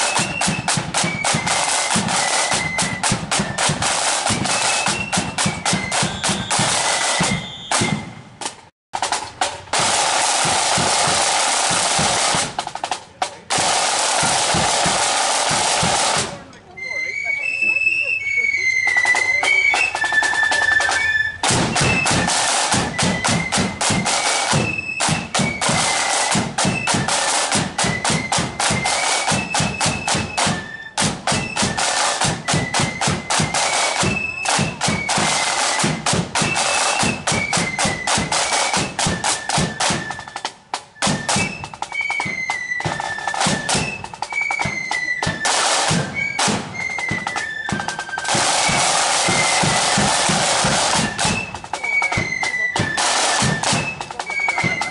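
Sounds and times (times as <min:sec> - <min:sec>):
high flute notes: 0:00.0 - 0:08.4, 0:14.9 - 0:54.9
side drums rolling: 0:00.0 - 0:54.9.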